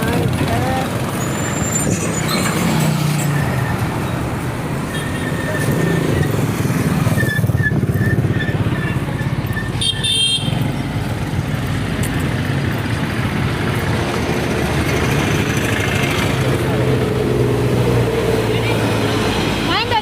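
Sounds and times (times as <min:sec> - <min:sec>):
motor vehicles passing: 0:00.0 - 0:20.0.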